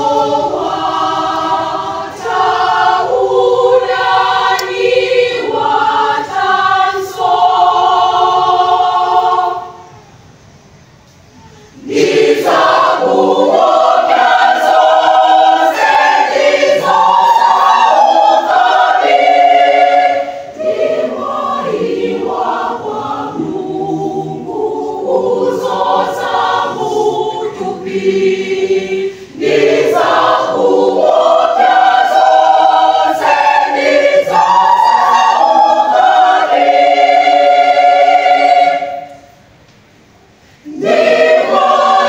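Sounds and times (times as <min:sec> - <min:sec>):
choir singing a hymn: 0:00.0 - 0:10.7, 0:11.4 - 0:42.0.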